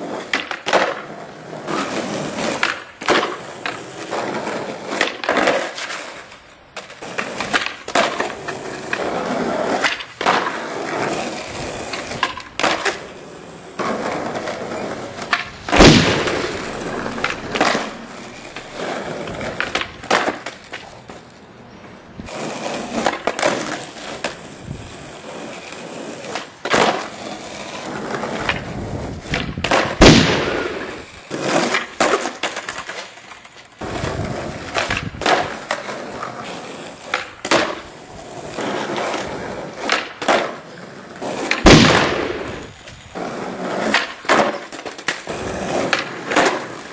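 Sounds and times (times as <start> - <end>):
skateboard deck clacking: 0.0 - 46.9
skateboard wheels rolling: 0.0 - 46.9.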